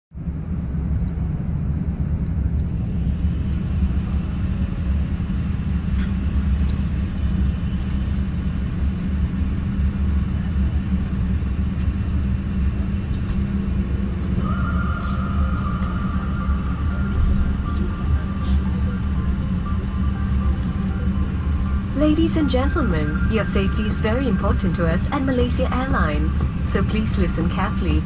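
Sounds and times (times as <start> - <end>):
airplane cabin low rumble: 0.1 - 28.0
steady higher tone: 0.6 - 28.0.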